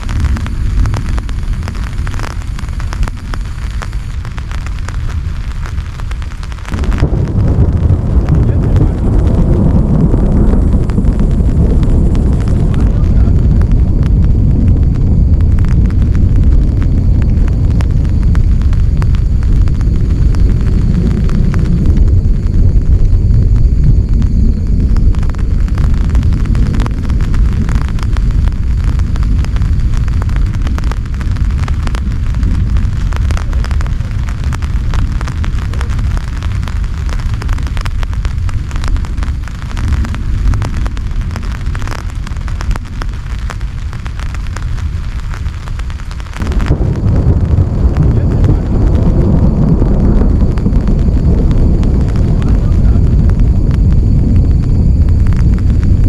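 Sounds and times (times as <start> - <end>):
heavy rain patter: 0.0 - 56.0
steady low rumble: 0.0 - 56.0.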